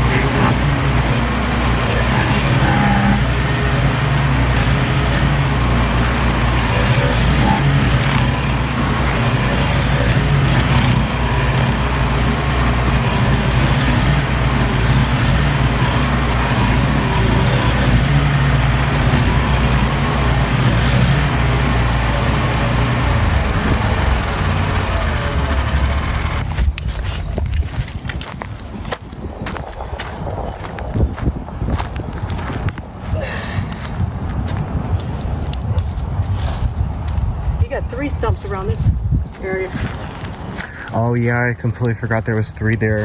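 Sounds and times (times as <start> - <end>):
gasoline engine droning: 0.0 - 43.0.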